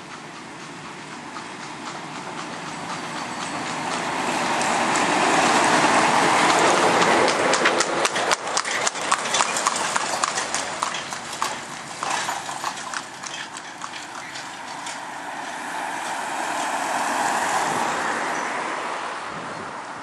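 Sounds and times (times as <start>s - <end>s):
horse hooves on paved road: 0.0s - 20.0s
car passing: 0.8s - 20.0s.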